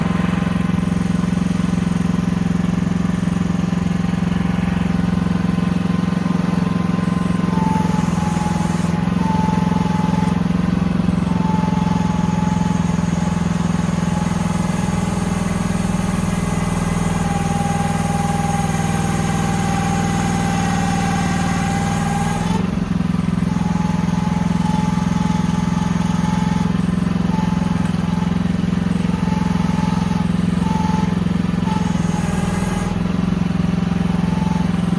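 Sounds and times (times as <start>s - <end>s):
excavator whine: 0.0s - 34.9s
mini excavator running: 0.0s - 34.9s.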